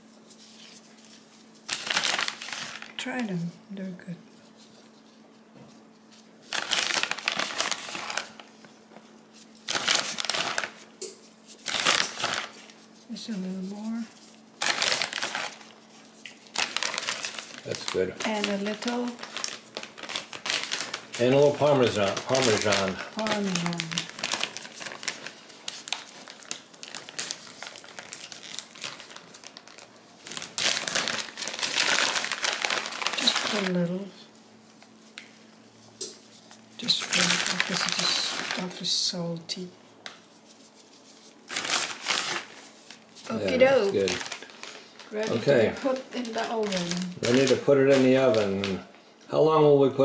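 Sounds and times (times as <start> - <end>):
plastic bag crinkling: 0.1 - 3.2, 5.9 - 39.1, 40.0 - 49.0.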